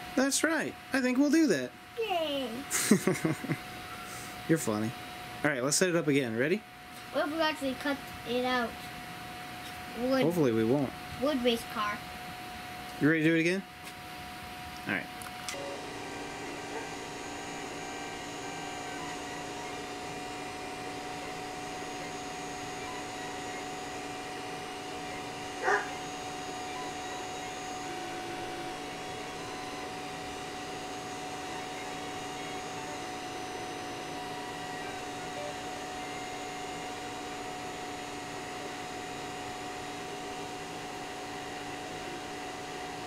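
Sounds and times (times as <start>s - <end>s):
cooling fan and motors whirring: 0.0s - 43.0s
steady humming tones: 0.0s - 43.0s.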